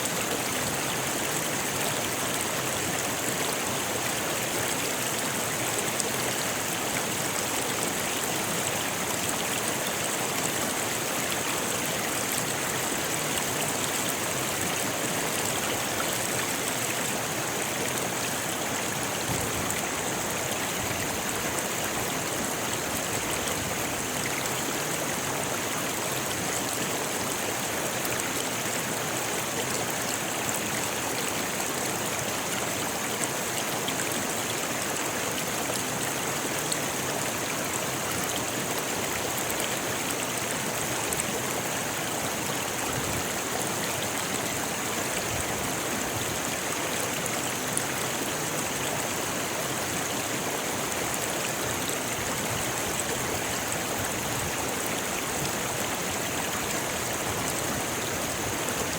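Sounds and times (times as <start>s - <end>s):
river flowing over stones: 0.0s - 58.9s.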